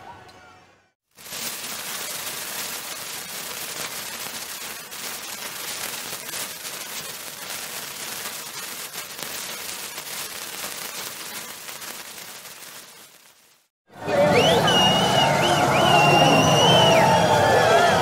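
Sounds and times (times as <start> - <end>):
sparkler fizzing and crackling: 1.0 - 13.8, 14.4 - 18.0.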